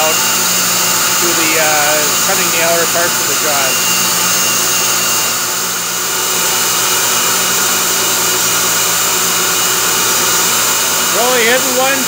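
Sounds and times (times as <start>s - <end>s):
grinder high-pitched whine: 0.0s - 12.0s
lathe turning chuck: 0.0s - 12.0s.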